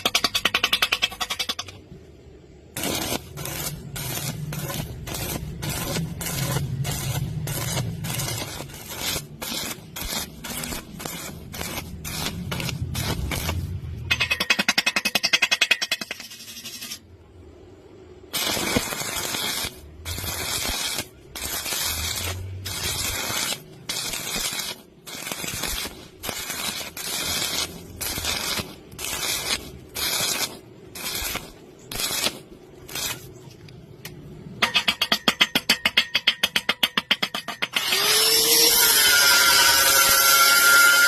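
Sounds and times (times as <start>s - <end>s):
welding arc crackling and hissing: 0.0s - 1.8s, 2.5s - 17.1s, 18.3s - 33.7s, 37.7s - 41.0s.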